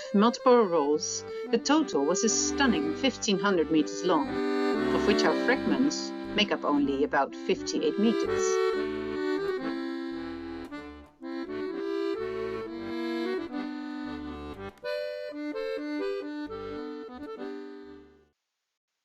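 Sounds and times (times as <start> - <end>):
instrumental music with chords: 0.0 - 18.3.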